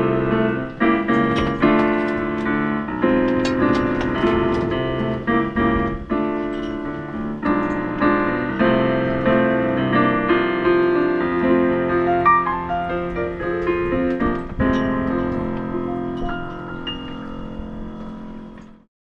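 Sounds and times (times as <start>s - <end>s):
piano playing chords and melody: 0.0s - 18.9s.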